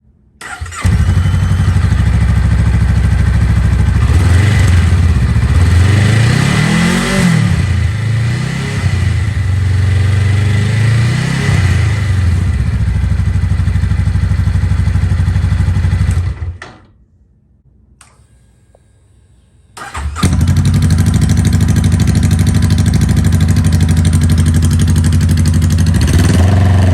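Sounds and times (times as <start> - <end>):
motorcycle engine idling and revving: 0.4 - 16.6, 19.8 - 26.9.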